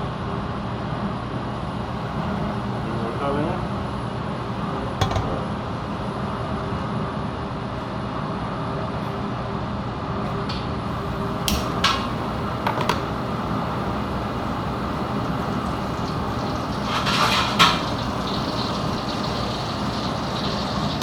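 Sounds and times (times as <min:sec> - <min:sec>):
gas burner roaring: 0:00.0 - 0:21.0.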